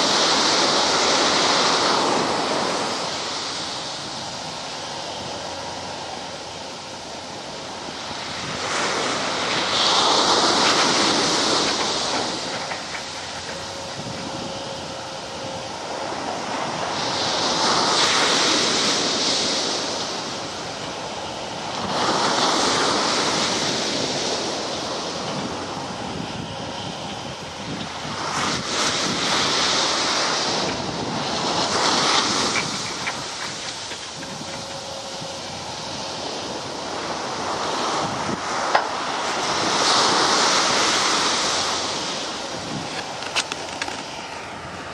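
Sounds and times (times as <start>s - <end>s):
beach wind: 0.0s - 44.9s.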